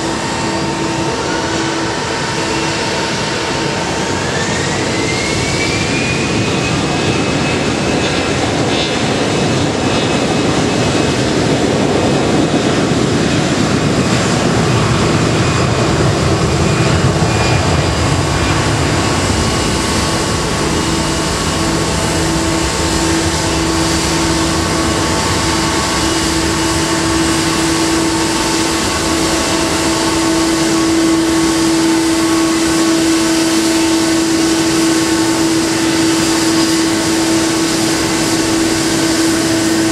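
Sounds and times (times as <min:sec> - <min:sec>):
jet engine roar inside cabin: 0:00.0 - 0:39.9.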